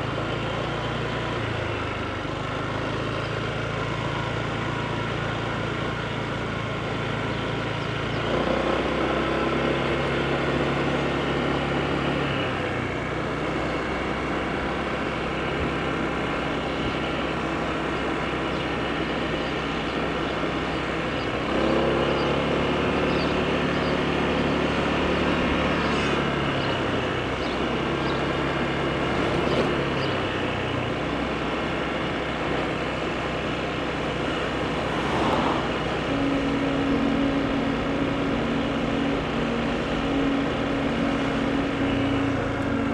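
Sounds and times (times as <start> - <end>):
scooter engine running: 0.0 - 42.9.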